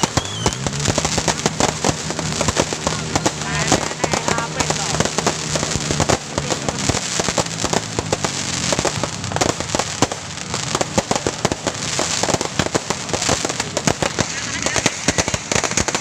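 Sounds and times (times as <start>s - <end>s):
firecrackers crackling: 0.0s - 16.0s
fireworks pops and bangs: 0.0s - 16.0s.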